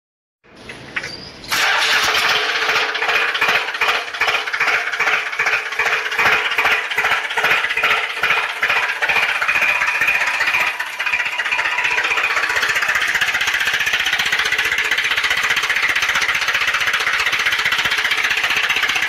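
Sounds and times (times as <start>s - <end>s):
toy tractor engine sound effect: 1.5s - 19.0s.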